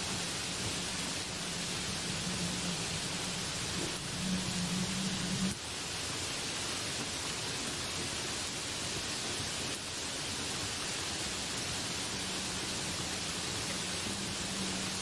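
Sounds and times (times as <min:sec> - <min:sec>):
heavy rain on leaves: 0:00.0 - 0:15.0.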